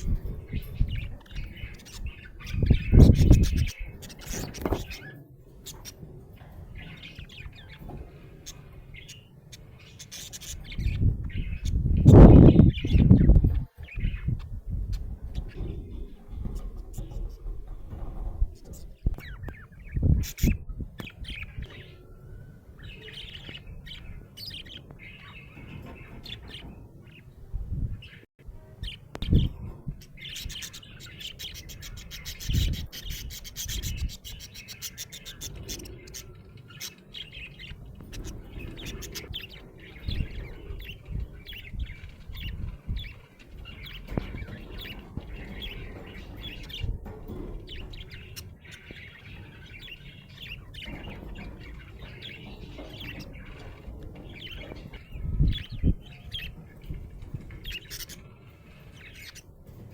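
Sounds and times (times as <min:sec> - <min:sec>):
low knocks and rustles: 0:00.0 - 0:59.9.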